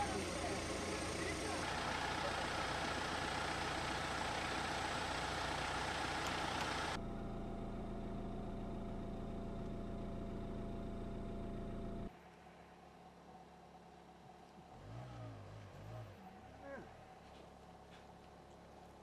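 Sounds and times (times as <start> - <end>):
car engines idling: 0.0 - 19.0.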